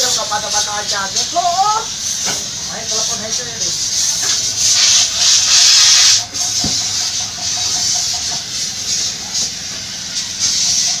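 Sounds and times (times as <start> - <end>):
compressed air hissing: 0.0 - 11.0.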